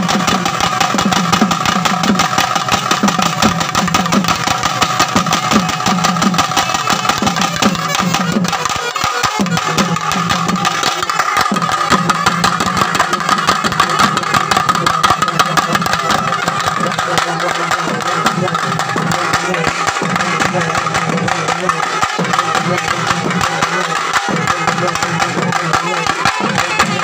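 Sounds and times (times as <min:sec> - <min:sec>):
rapid drumming: 0:00.0 - 0:27.0.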